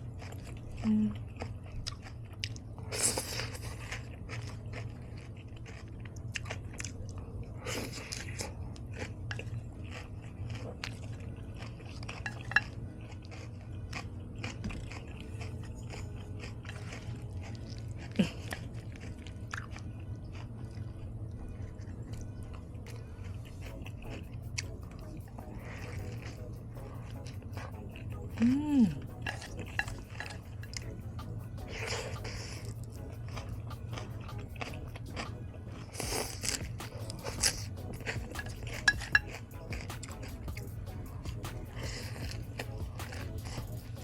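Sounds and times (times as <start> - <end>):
moist chewing with clicks: 0.0 - 44.0.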